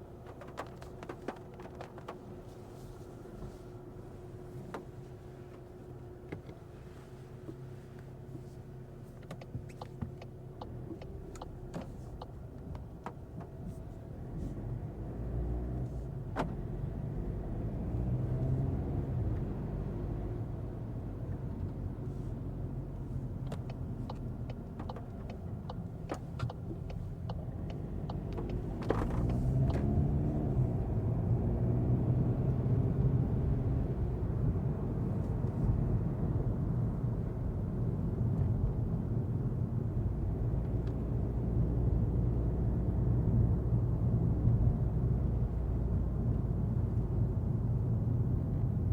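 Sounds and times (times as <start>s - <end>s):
car engine and tyres on wet road: 0.0s - 48.9s.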